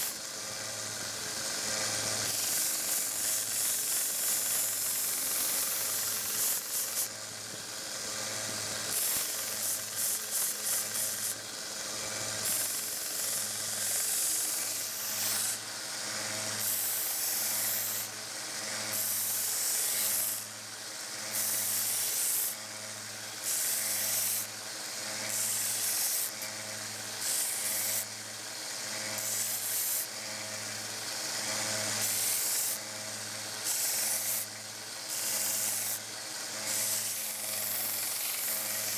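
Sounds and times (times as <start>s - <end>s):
belt sander motor hum: 0.0s - 38.9s
grinding hiss on steel: 0.0s - 38.9s.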